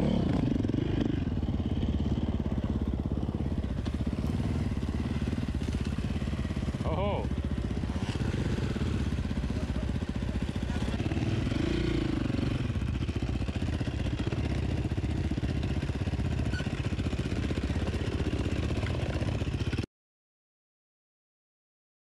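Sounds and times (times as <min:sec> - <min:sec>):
dirt bike engine running: 0:00.0 - 0:19.9.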